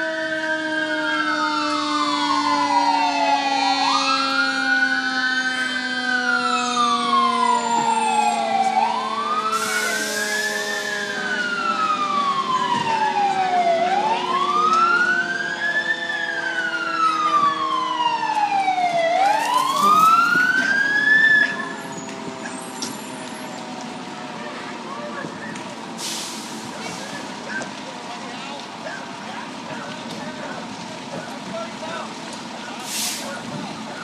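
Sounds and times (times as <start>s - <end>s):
fire engine siren wailing: 0.0s - 34.0s.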